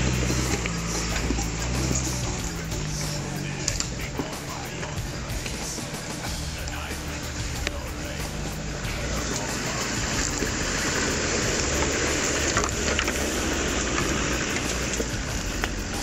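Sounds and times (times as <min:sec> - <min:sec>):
tyres crunching on loose stones: 0:00.0 - 0:16.0
vehicle engine running: 0:00.0 - 0:16.0.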